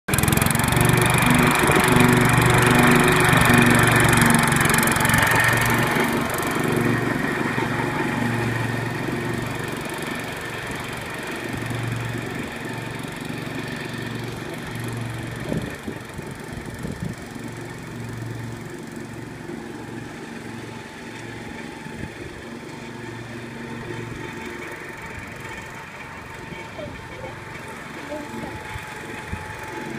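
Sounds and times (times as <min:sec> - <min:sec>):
walk-behind tractor engine mowing: 0:00.1 - 0:29.9.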